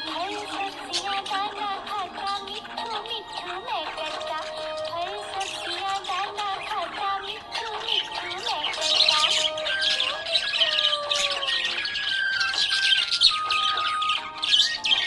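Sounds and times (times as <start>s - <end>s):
background music with held notes: 0.0s - 15.0s
budgerigars chirping and squawking: 0.0s - 15.0s.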